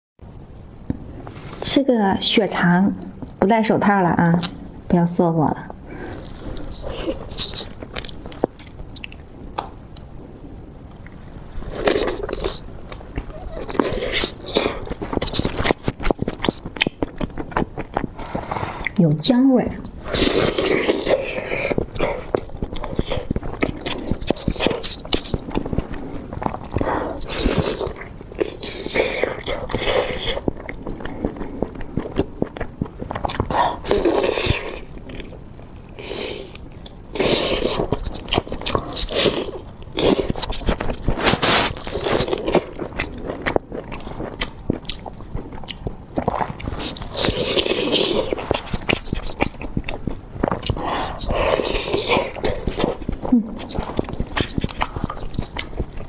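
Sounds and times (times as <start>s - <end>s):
wet chewing mouth sounds: 5.9s - 10.1s, 11.0s - 19.0s, 19.8s - 56.0s.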